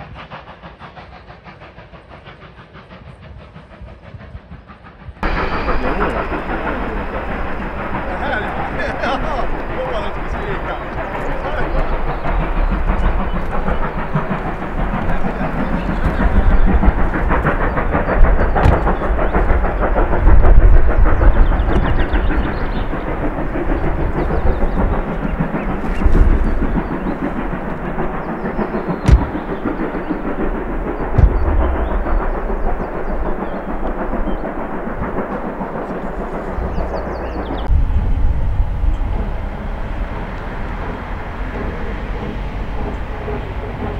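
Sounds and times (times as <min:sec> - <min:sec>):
deep train rumble: 0:00.0 - 0:43.9
steam locomotive exhaust beats: 0:00.0 - 0:43.9.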